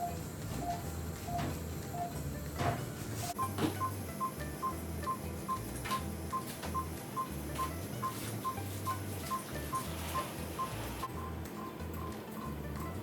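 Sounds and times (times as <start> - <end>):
patient monitor beeping: 0.0 - 2.2, 3.4 - 5.7, 6.3 - 12.6.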